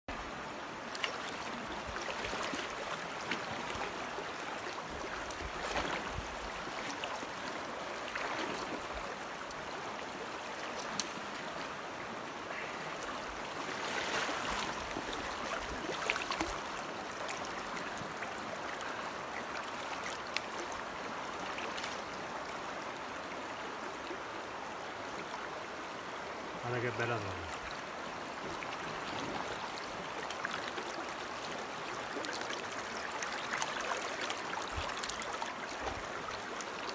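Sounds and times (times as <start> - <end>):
river water rushing over stones: 0.1 - 36.9.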